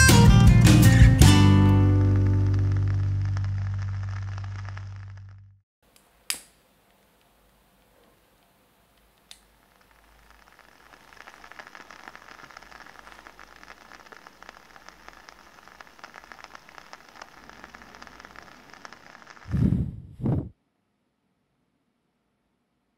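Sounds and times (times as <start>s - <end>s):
candle flame crackling: 1.2s - 5.6s, 6.2s - 20.5s.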